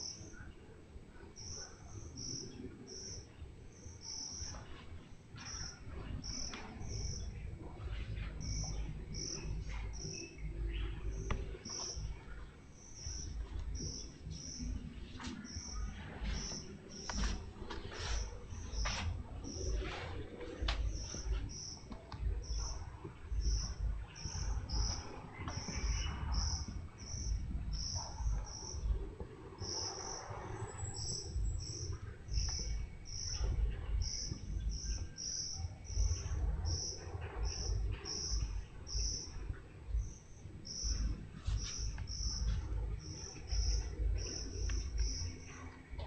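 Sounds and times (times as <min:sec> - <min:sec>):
cricket chirping: 0:01.4 - 0:04.6, 0:05.4 - 0:19.8, 0:20.6 - 0:46.0.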